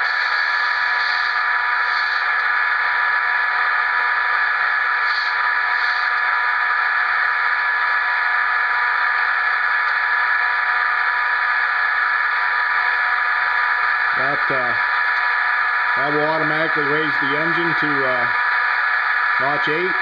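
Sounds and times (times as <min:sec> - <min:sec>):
locomotive engine drone from small speaker: 0:00.0 - 0:20.0.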